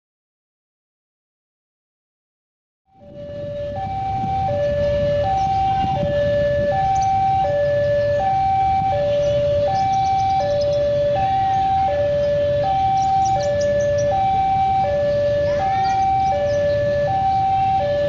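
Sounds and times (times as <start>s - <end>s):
two-tone crossing alarm: 2.9s - 18.0s.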